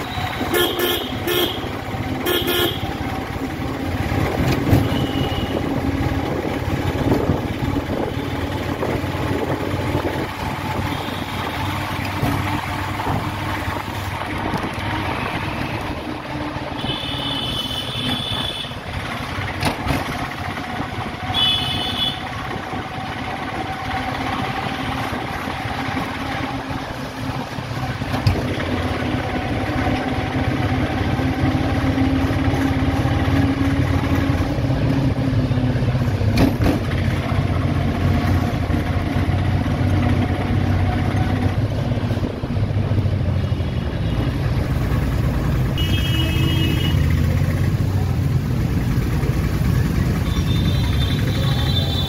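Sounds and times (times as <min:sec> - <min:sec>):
road traffic: 0:00.0 - 0:52.0
vehicle engine running: 0:00.0 - 0:52.0.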